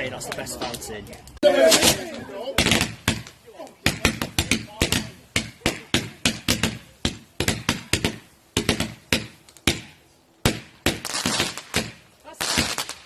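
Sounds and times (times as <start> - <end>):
fireworks crackling: 0.0 - 13.0
fireworks bangs: 1.6 - 13.0.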